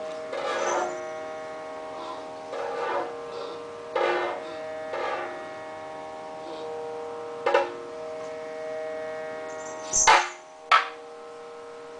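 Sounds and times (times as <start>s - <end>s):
sustained drone: 0.0s - 11.9s.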